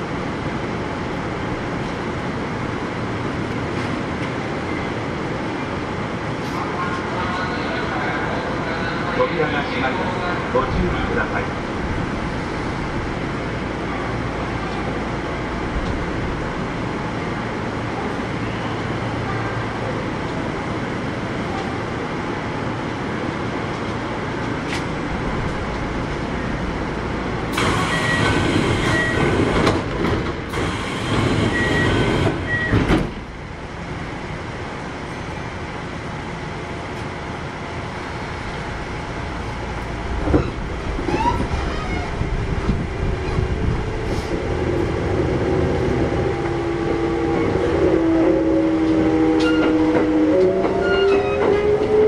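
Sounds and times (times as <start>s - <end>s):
train interior hum: 0.0s - 52.0s.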